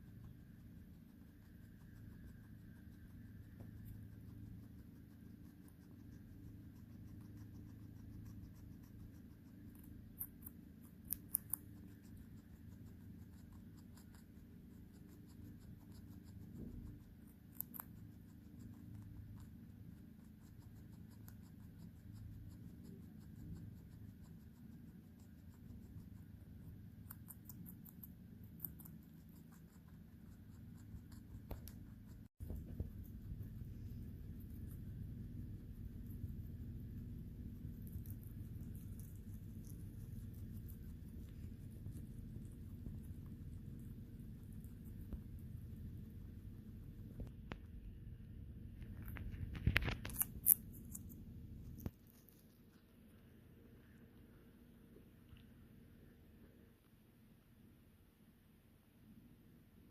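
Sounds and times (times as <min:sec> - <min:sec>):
guinea pig chewing vegetables: 0:00.0 - 0:59.0
faint low room hum: 0:00.0 - 0:59.9.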